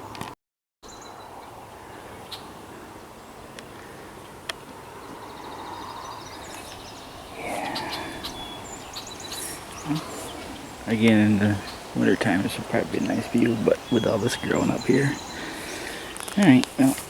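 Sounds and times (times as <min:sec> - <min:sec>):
background hiss: 0:01.5 - 0:17.0.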